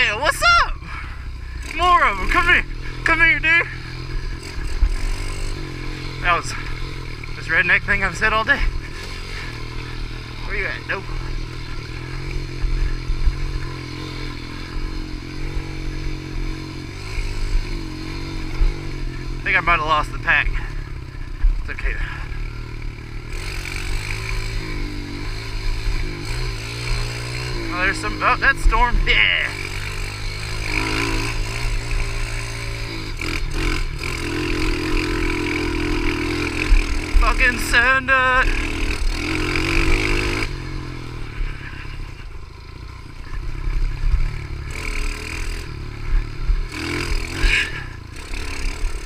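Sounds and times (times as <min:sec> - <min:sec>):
pit bike engine running: 0:00.0 - 0:49.0.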